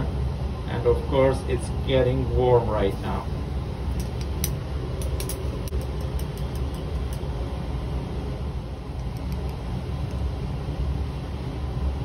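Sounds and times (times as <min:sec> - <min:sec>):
ventilation rumble: 0:00.0 - 0:12.0.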